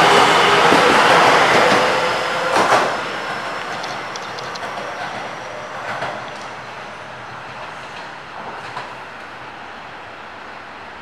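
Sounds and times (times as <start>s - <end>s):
train wheels clattering over track: 0.0s - 9.4s.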